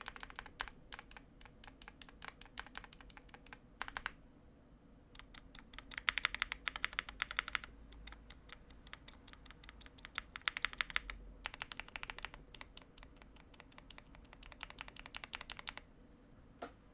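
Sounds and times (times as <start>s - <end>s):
fast mechanical keyboard typing: 0.0s - 4.2s, 5.2s - 15.9s.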